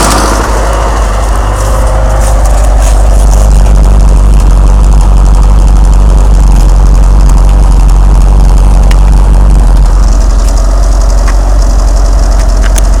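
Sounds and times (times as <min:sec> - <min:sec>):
car engine idling roughly: 0:00.0 - 0:13.0.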